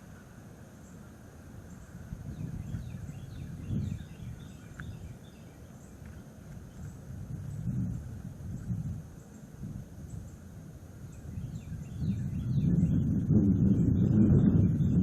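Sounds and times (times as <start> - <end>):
high insect chirping: 0.0 - 15.0
small bird twittering: 0.0 - 15.0
wind gusting against microphone: 0.0 - 15.0.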